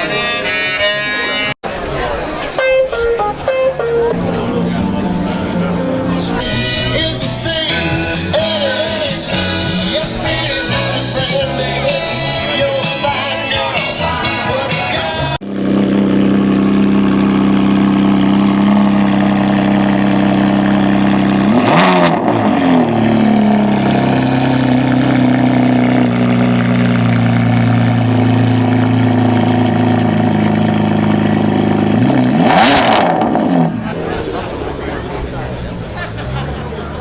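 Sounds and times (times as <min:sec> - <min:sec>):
car engine running: 0:04.1 - 0:37.0.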